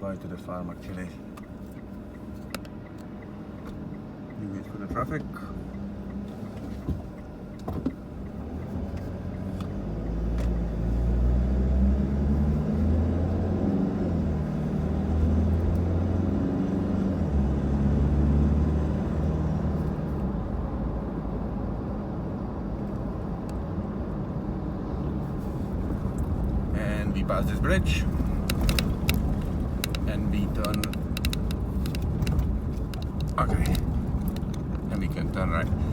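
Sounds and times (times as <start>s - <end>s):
vehicle engine rumbling: 0.0s - 35.9s.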